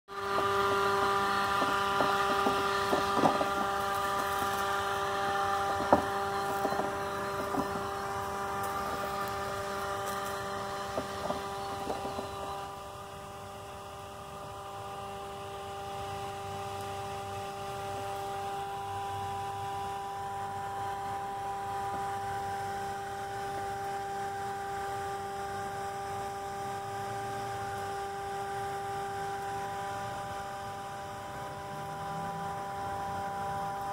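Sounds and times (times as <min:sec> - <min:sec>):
robotic lawn mower humming whine: 0:00.0 - 0:33.9.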